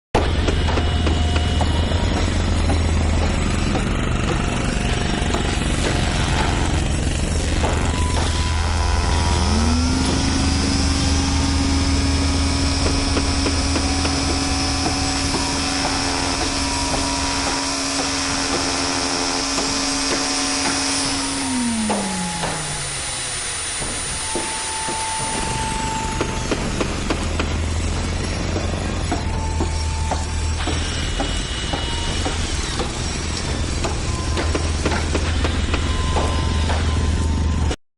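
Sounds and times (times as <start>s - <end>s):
knocks and clatter: 0.2s - 37.2s
heavy machinery rumble: 0.2s - 37.8s
power tool motor whine: 0.3s - 37.8s.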